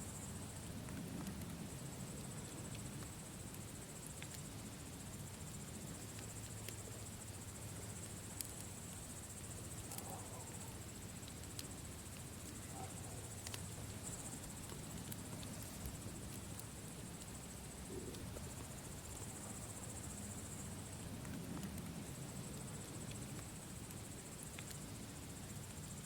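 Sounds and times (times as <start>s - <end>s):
insect trill: 0.0s - 26.0s
campfire crackling: 0.1s - 26.0s.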